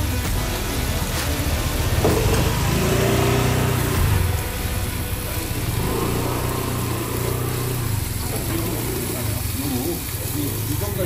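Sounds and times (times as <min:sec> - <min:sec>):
busy street noise: 0:00.0 - 0:11.0.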